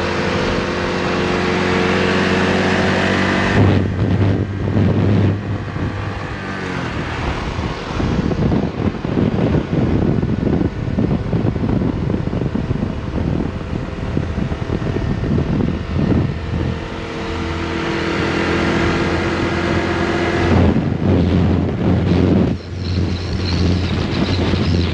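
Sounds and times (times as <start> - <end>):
scooter engine running: 0.0 - 24.9
wind noise on microphone: 0.0 - 24.9.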